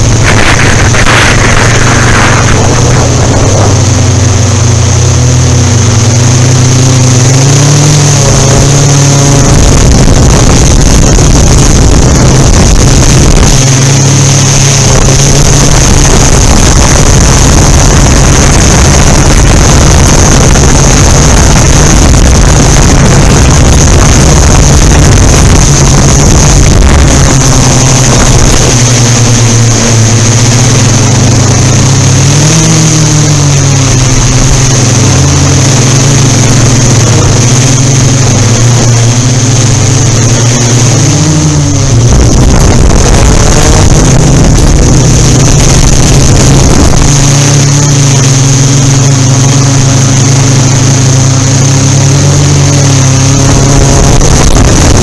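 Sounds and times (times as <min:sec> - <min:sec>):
wind buffeting microphone: 0:00.0 - 0:51.0, 0:51.8 - 0:55.0
drone motors humming: 0:00.0 - 0:55.0.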